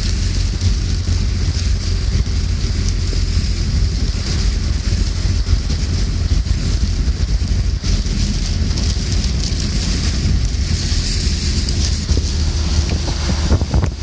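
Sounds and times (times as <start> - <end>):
rain hissing: 0.0 - 14.0
wind rumbling on microphone: 0.0 - 14.0.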